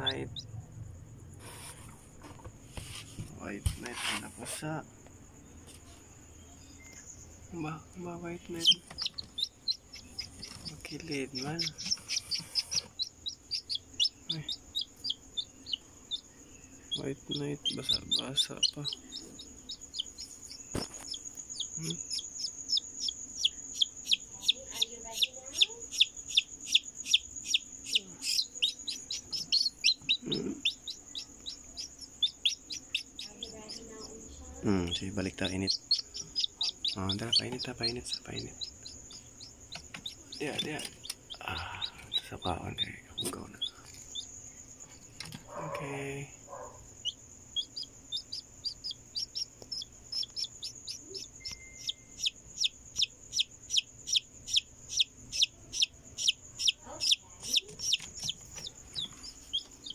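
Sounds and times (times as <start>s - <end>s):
chick peeping: 0.0s - 0.6s, 6.7s - 44.4s, 45.0s - 59.9s.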